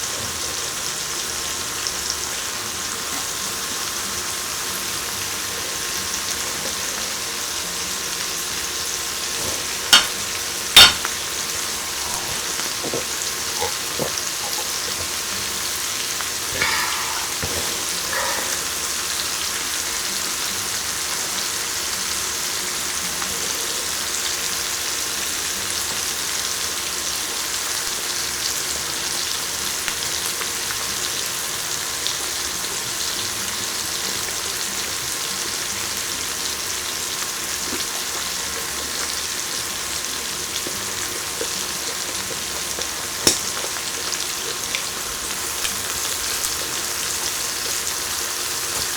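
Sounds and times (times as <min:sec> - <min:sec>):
food sizzling on grill: 0:00.0 - 0:48.9.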